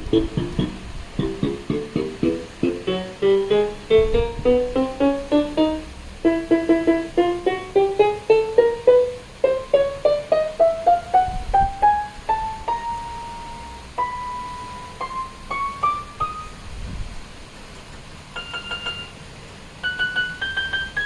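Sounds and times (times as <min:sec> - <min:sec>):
electronic keyboard single notes: 0:00.0 - 0:16.6, 0:18.4 - 0:19.2.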